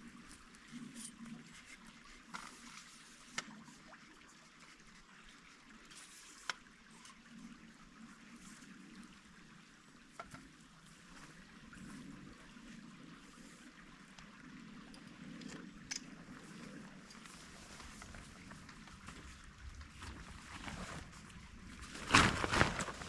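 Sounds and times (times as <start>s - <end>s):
stream water trickling: 0.0s - 23.0s.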